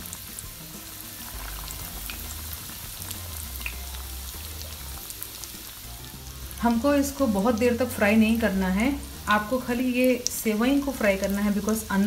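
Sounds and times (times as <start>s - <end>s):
food sizzling in hot oil: 0.0s - 12.0s
oil popping and crackling: 0.0s - 12.0s.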